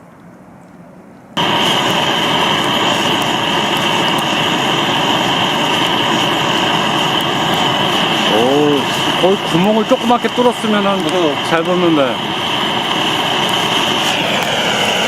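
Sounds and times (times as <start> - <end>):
gas torch blasting: 1.4 - 15.0.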